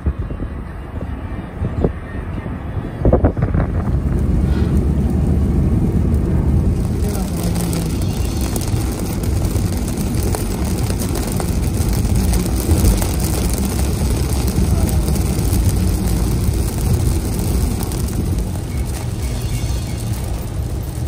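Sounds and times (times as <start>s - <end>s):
car rumbling on wet road: 2.6s - 21.0s
rain and tyre spray hiss: 3.4s - 21.0s.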